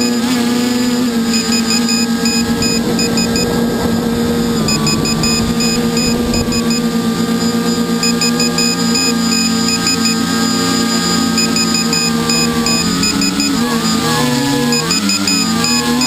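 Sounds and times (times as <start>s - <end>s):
drone motors whining: 0.0s - 16.0s
rapid high-pitched pulses: 1.0s - 16.0s.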